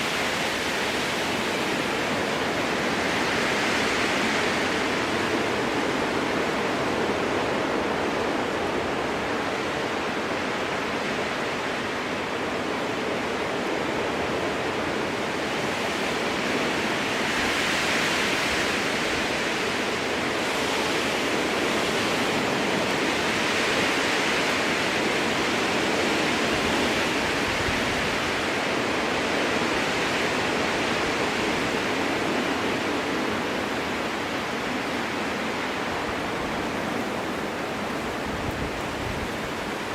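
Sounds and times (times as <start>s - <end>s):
wind blowing through trees: 0.0s - 39.9s.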